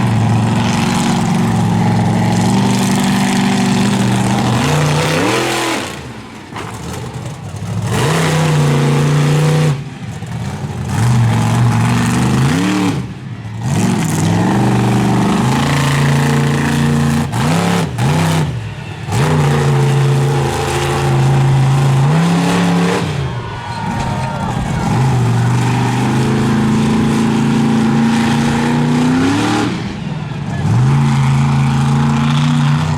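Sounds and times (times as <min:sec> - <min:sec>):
monster truck engine revving: 0:00.0 - 0:32.9.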